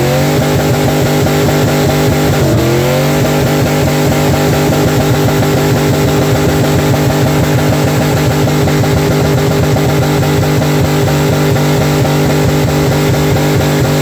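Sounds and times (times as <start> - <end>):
engine bouncing off rev limiter: 0.0 - 14.0.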